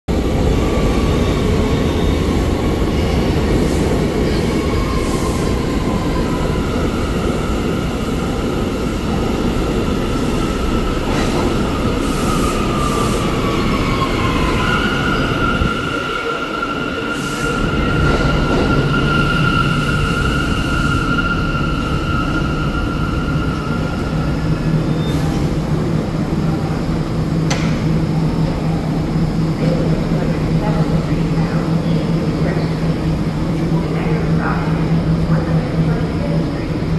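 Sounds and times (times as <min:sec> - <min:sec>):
subway train rumble: 0:00.0 - 0:36.9.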